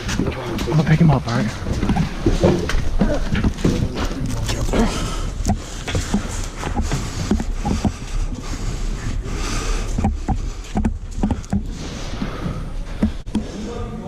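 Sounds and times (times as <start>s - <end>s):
footsteps: 0.0s - 13.9s.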